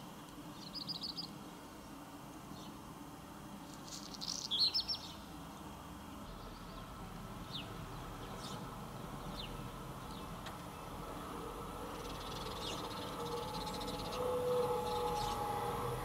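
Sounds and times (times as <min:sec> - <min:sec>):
small songbird chirping: 0:00.5 - 0:01.4, 0:03.7 - 0:15.8.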